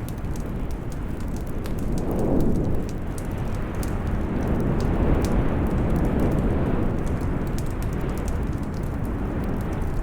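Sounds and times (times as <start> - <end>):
low fire rumble: 0.0 - 10.0
wood fire crackling: 0.0 - 10.0.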